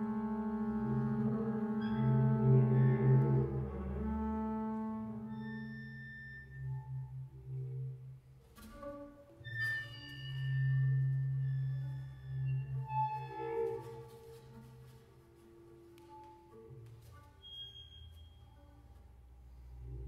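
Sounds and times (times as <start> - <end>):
bowed double bass: 0.0 - 20.0.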